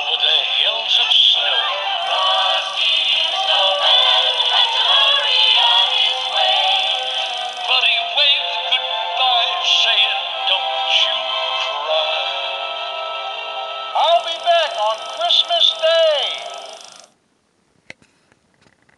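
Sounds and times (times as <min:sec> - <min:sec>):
tinny electronic toy singing: 0:00.2 - 0:12.4, 0:13.9 - 0:17.1.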